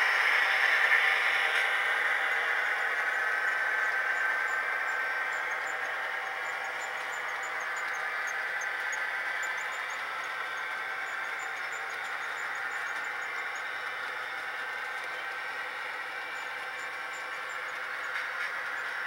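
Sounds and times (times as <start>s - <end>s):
model freight cars rolling on track: 0.0s - 19.0s.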